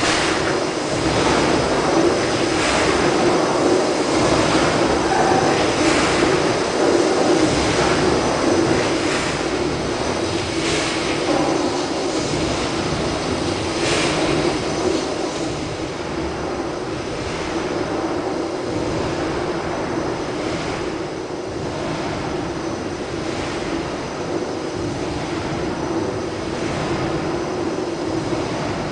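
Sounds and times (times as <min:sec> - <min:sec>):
steam beam engine running: 0:00.0 - 0:28.9.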